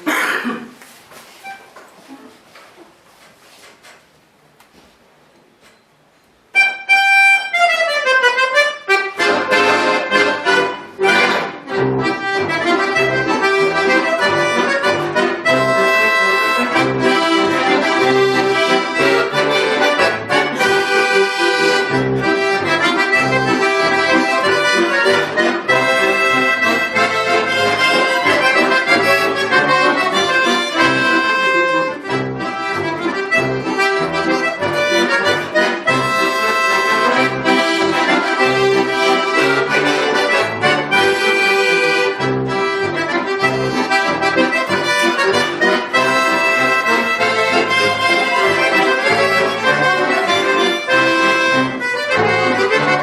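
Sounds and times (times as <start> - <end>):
button accordion playing: 1.4 - 1.8, 6.6 - 53.0.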